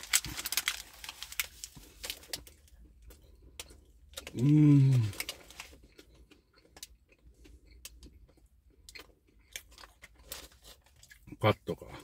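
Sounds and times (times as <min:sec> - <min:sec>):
person chewing: 0:01.6 - 0:11.4.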